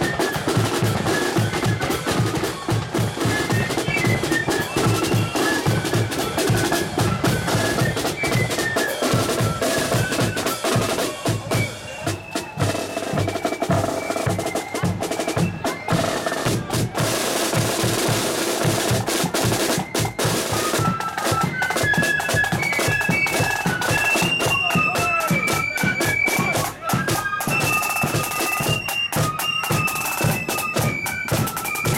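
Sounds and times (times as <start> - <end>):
flutes playing a tune: 0.0 - 31.9
rolling snare drums: 0.0 - 31.9.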